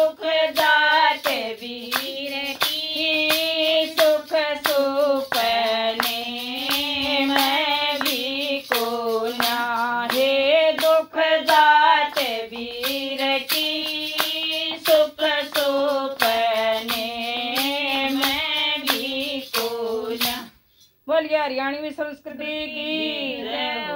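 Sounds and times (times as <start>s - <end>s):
hand claps: 0.0s - 20.5s
woman singing folk song: 0.0s - 23.9s.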